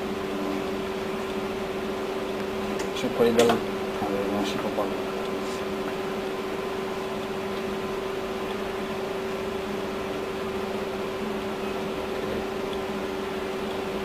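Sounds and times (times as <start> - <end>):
machine motor hum with hiss: 0.0 - 14.0.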